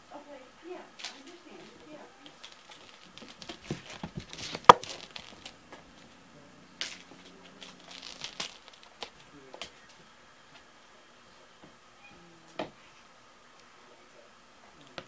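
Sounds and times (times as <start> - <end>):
rustling: 0.6 - 14.0.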